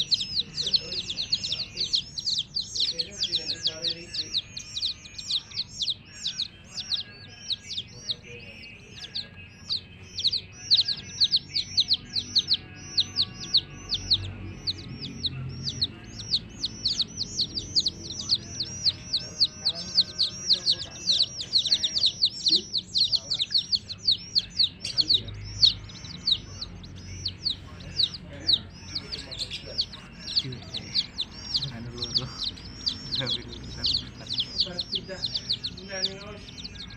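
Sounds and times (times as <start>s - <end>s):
baby chicks peeping: 0.0s - 36.9s.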